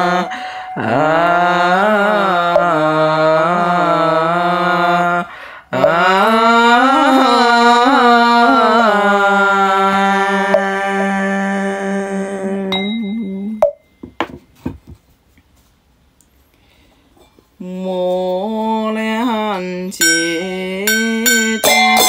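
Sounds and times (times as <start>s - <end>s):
person chanting: 0.0s - 13.6s, 17.6s - 22.0s.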